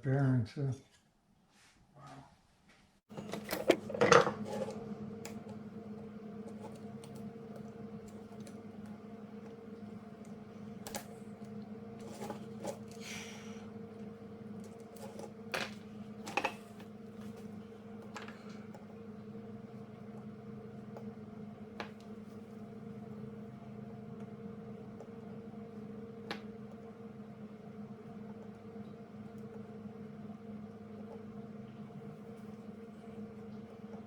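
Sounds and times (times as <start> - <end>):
steady hum: 3.1 - 34.0.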